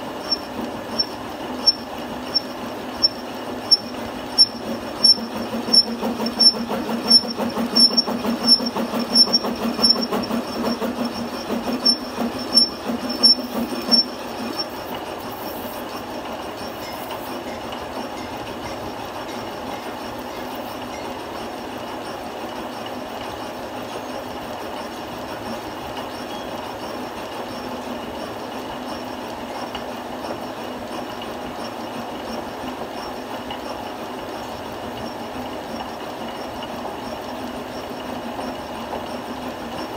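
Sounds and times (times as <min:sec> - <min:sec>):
metal lathe running: 0:00.0 - 0:39.9.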